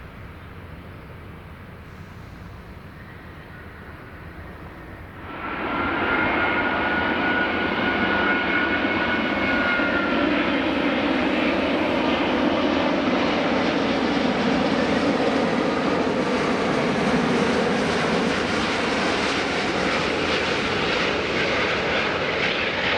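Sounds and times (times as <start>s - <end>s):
jet engines whining and rumbling: 0.0s - 22.9s.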